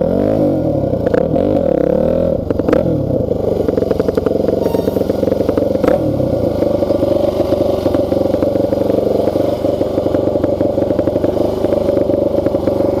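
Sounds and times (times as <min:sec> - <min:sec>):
engine idling with pulsing beat: 0:02.4 - 0:13.0.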